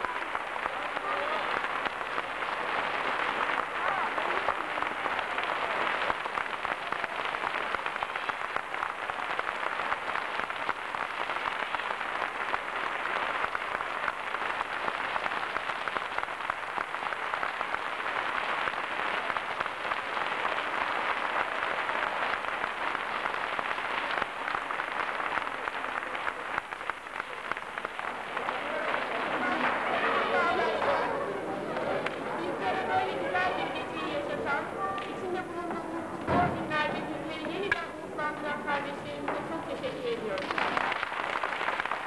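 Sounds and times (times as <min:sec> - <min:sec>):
audience applauding: 0:00.0 - 0:42.0.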